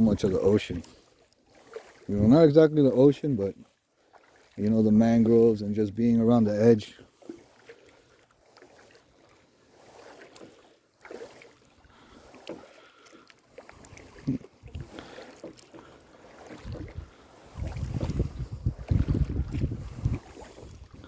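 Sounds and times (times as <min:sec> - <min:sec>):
paddle splashes: 0:00.0 - 0:21.0.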